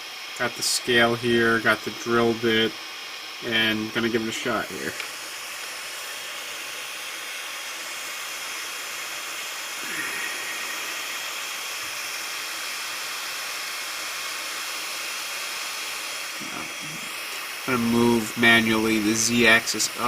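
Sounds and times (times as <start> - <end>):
cooling fans whirring: 0.0 - 20.0.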